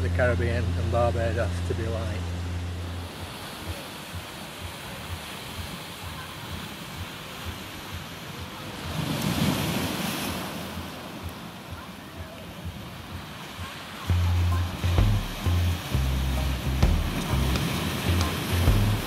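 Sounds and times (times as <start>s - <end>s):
waves washing over rocks: 0.1s - 19.0s.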